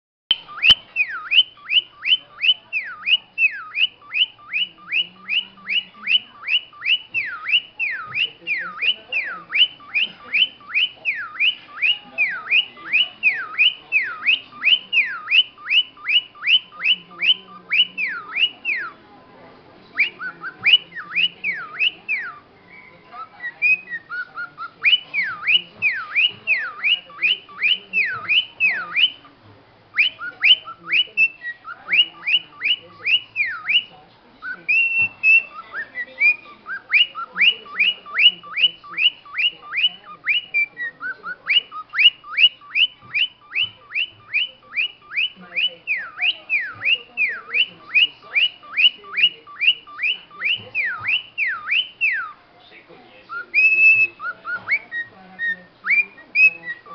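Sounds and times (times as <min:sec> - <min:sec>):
cockatiel whistling: 0:00.3 - 0:19.0, 0:20.0 - 0:52.4, 0:53.3 - 0:56.9.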